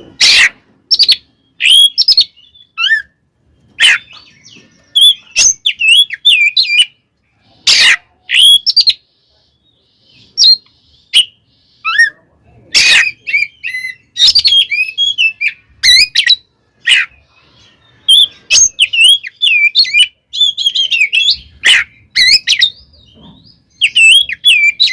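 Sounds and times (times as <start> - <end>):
harsh rasping bird calls: 0.0 - 24.9
bird singing whistled notes: 0.9 - 7.0, 8.3 - 9.0, 9.6 - 12.2, 12.9 - 24.9.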